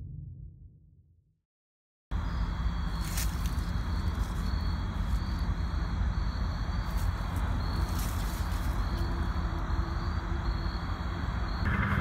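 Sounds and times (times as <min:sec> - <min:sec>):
insects trilling: 0:02.1 - 0:12.0.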